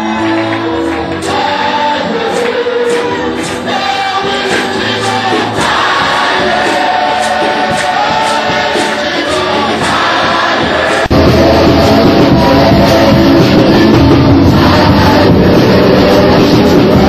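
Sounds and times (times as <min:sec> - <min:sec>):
choir singing with band: 0:00.0 - 0:17.0
steady drum beat: 0:00.1 - 0:17.0.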